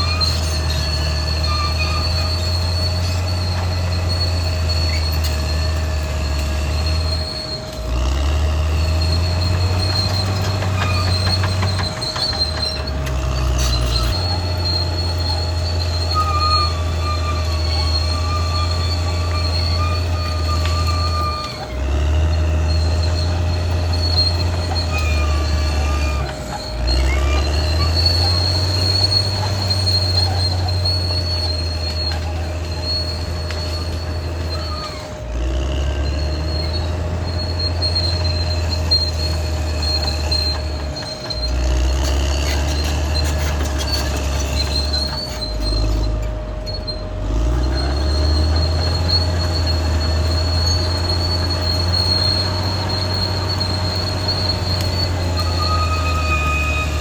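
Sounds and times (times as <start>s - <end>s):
diesel engine droning: 0.0s - 57.0s
steel tracks squealing and grinding: 0.0s - 57.0s.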